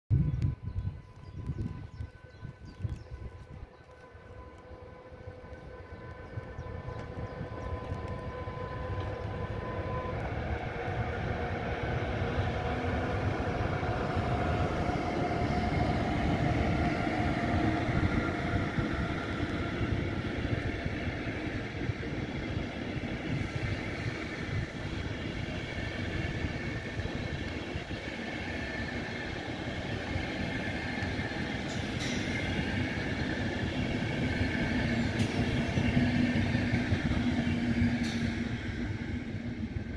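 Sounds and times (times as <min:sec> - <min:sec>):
train wheels rumbling on rails: 0:00.1 - 0:39.9.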